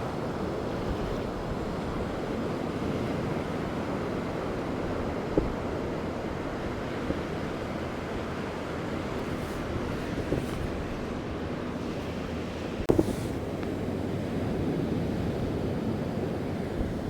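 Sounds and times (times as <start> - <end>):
ocean surf on a beach: 0.0 - 17.0
wind rumbling on microphone: 0.0 - 17.0.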